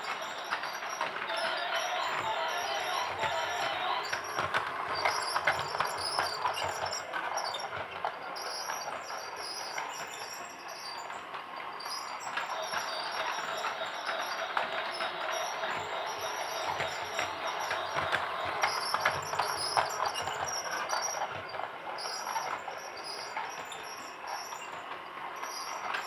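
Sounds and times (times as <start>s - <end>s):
toy train whirring: 0.0s - 26.0s.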